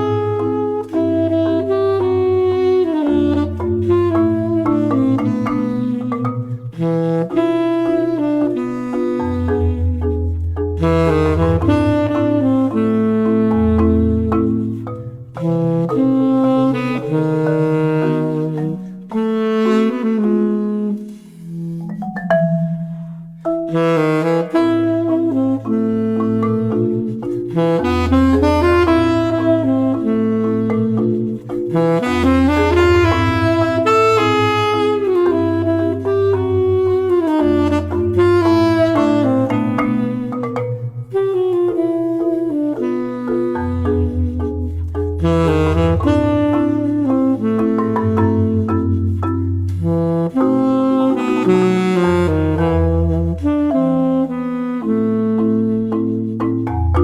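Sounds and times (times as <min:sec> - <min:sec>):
gliding lead melody: 0:00.0 - 0:57.0
long-held bass notes: 0:00.0 - 0:57.0.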